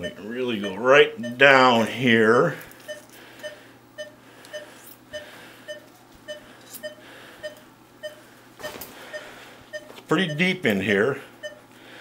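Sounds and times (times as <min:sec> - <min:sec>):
patient monitor beeping: 0:00.0 - 0:11.8.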